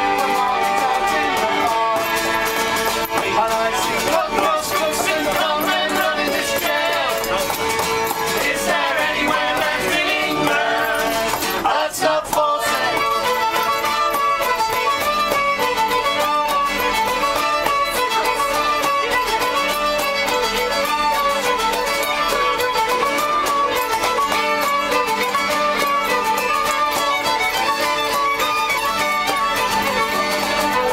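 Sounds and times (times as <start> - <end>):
fiddle playing dance tune: 0.0 - 30.9.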